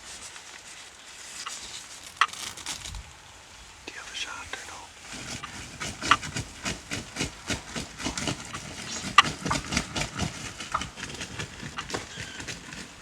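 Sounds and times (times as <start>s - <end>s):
turkey wing beats: 0.2s - 13.0s.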